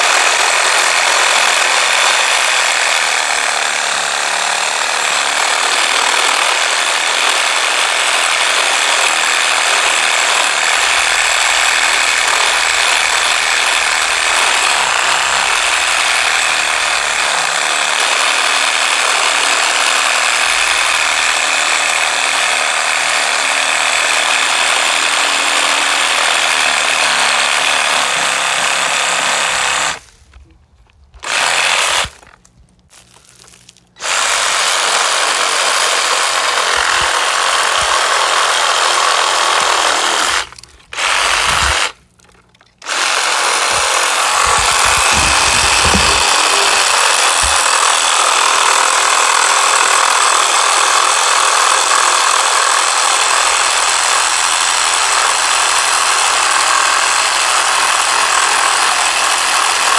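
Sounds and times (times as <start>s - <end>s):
reciprocating saw cutting wood: 0.0s - 30.6s, 31.2s - 32.4s, 33.8s - 59.9s.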